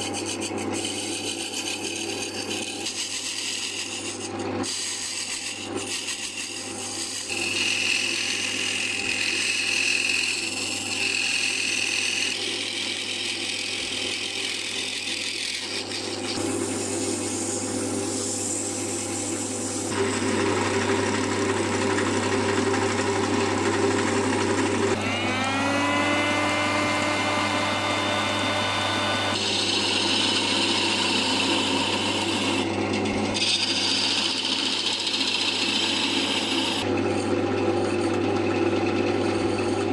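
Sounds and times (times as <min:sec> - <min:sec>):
turning tool shaving wood: 0:00.0 - 0:39.9
wood lathe humming: 0:00.0 - 0:39.9.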